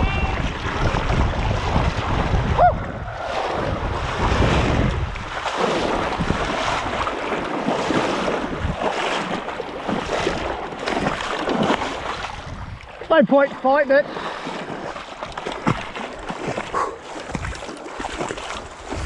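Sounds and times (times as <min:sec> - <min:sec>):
wind buffeting microphone: 0:00.0 - 0:13.6, 0:14.3 - 0:19.0
rushing river water: 0:00.0 - 0:19.0.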